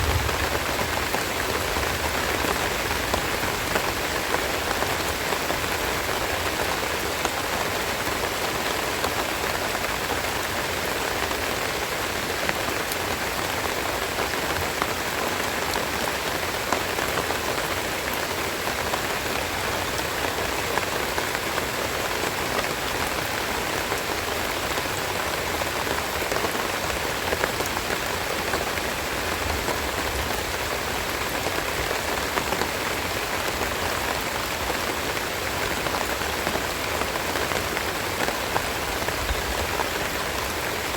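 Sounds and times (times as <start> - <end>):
rain pattering on leaves: 0.0 - 40.9.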